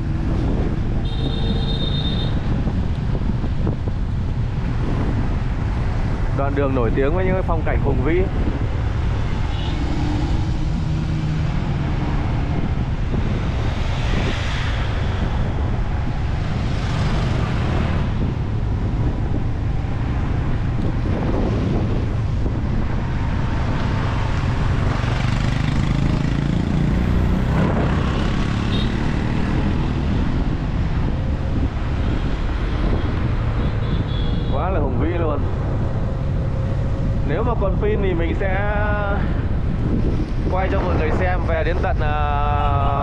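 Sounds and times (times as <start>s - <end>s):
tyre noise on road: 0.0s - 43.0s
wind rushing over microphone: 0.0s - 43.0s.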